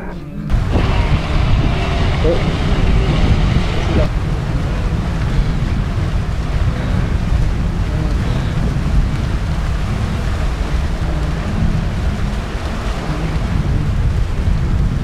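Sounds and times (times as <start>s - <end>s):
deep rumble: 0.0s - 15.0s
animals splashing through a river: 0.5s - 15.0s.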